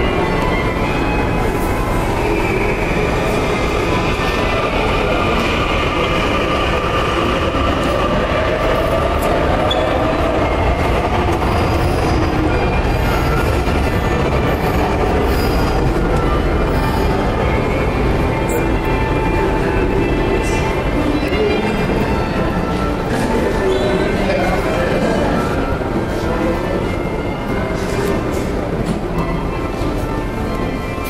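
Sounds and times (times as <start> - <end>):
metro train rumbling: 0.0 - 31.0.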